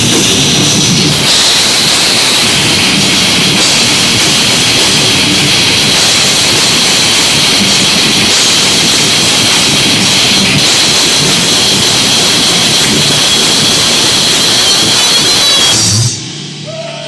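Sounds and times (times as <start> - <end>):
heavy metal band playing live: 0.0 - 16.6.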